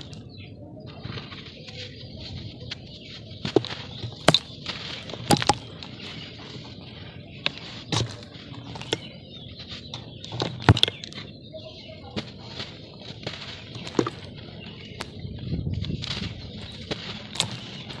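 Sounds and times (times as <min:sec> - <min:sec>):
dirt lumps cracking and crunching: 0:00.0 - 0:18.0
gritty rustle of crumbling soil: 0:00.0 - 0:18.0.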